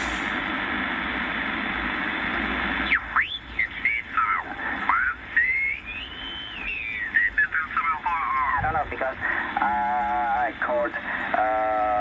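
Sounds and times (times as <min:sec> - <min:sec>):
radio static hiss: 0:00.0 - 0:05.9, 0:06.6 - 0:12.0.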